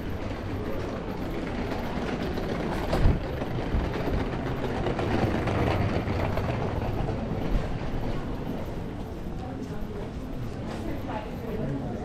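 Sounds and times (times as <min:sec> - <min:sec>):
wheels rattling over cobblestones: 0:00.0 - 0:12.0.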